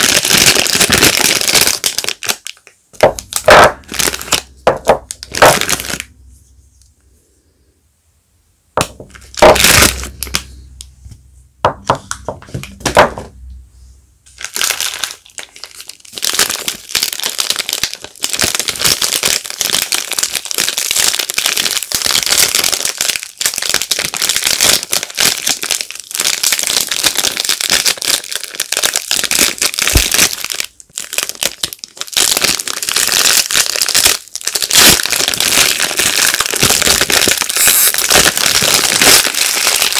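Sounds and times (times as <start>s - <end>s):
packaging crinkling: 0.0s - 6.2s, 8.8s - 10.7s, 14.3s - 39.9s.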